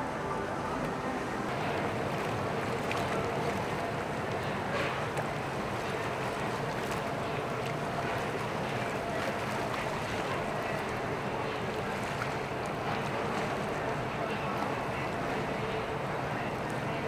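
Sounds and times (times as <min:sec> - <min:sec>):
boat motor running: 0:00.0 - 0:17.0
water noise: 0:00.0 - 0:17.0.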